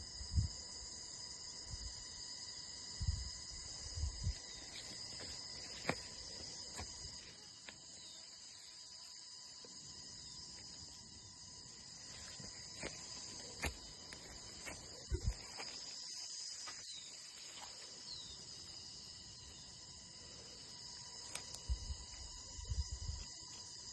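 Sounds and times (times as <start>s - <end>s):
crickets trilling: 0.0s - 23.9s.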